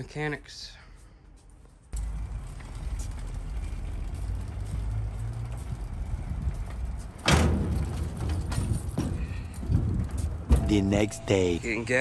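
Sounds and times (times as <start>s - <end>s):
vehicle engine rumbling: 2.0s - 11.9s.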